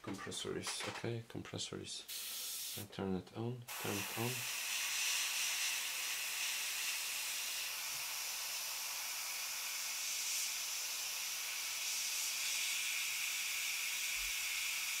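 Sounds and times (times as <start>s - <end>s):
airbrush spraying compressed air hiss: 2.0s - 2.8s, 3.7s - 15.0s.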